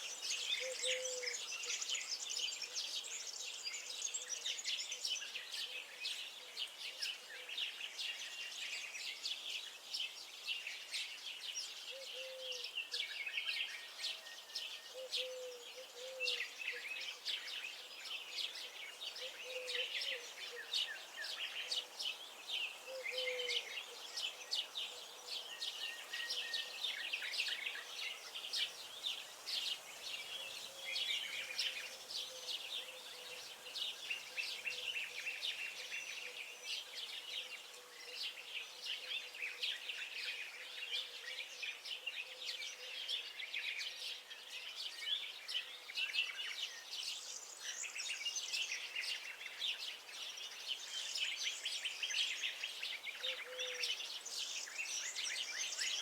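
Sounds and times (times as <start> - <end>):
songbirds chorus: 0.0 - 56.0.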